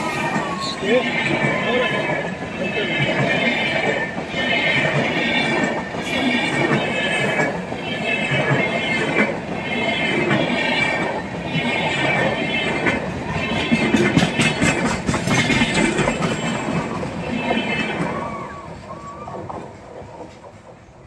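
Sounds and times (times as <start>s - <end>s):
high wheel squeal: 0.0s - 19.4s
steel wheels rumbling on rails: 0.0s - 21.0s.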